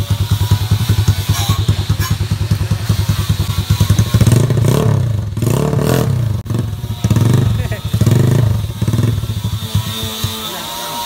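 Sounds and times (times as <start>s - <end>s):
motorcycle engine idling: 0.0s - 10.5s
motorcycle engine revving: 0.0s - 11.0s.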